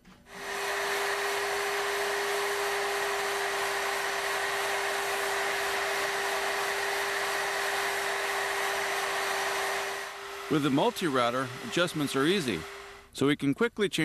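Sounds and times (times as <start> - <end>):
router cutting wood: 0.3 - 13.1.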